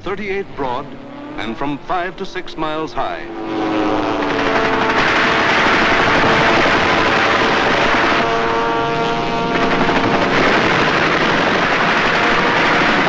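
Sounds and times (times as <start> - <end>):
pitched engine note: 0.0 - 13.0
propeller plane engines: 0.0 - 13.0.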